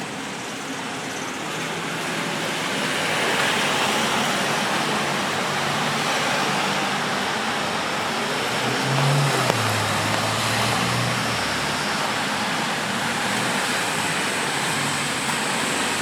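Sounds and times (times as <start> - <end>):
car tyres swishing on wet street: 0.0 - 16.0
rain on wet road: 0.0 - 16.0.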